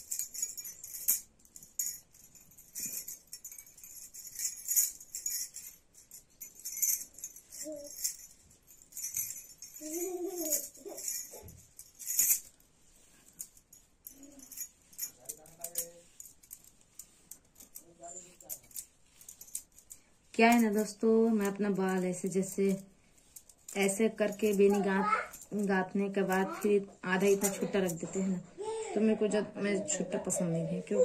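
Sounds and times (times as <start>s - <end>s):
bangles jingling and clinking: 0.0s - 28.9s.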